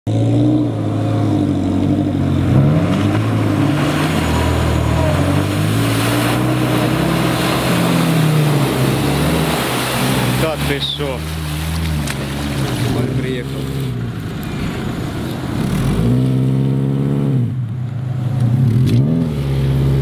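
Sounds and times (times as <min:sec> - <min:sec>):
car engine revving: 0:00.1 - 0:20.0
muddy water splashing: 0:01.0 - 0:17.2.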